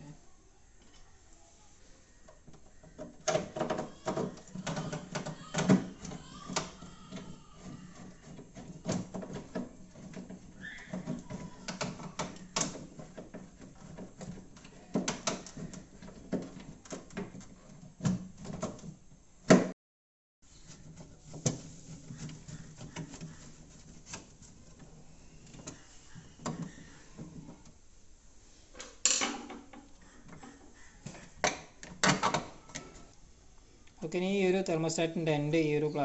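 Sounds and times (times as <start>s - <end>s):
plastic parts clicking and knocking: 2.2s - 19.7s, 20.7s - 27.8s, 28.8s - 33.1s.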